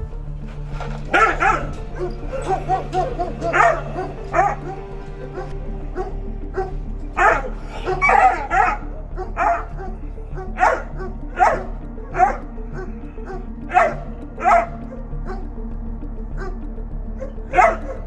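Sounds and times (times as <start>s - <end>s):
background music: 0.0s - 18.0s
dog barking: 1.0s - 15.5s, 16.4s - 16.6s, 17.2s - 18.0s.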